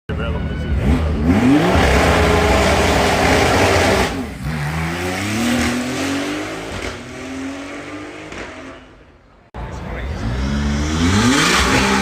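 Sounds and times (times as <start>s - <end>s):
car accelerating hard: 0.8s - 8.9s, 10.1s - 12.0s.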